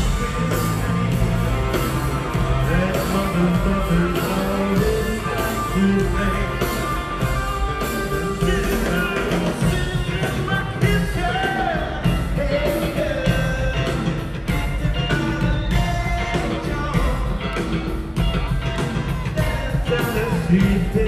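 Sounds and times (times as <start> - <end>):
bass guitar: 0.0 - 21.0
drums: 0.0 - 21.0
electric guitar: 0.0 - 21.0
pitch-bending lead guitar line: 0.0 - 21.0.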